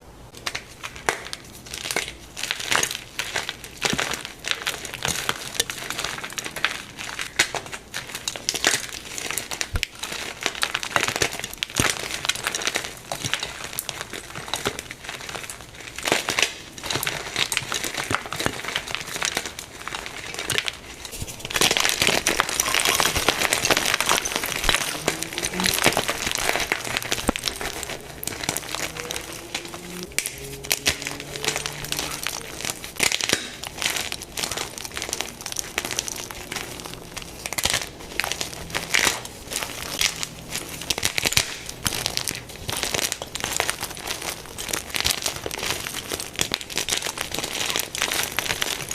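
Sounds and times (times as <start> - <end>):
chalk blocks crunching and snapping: 0.3 - 48.9.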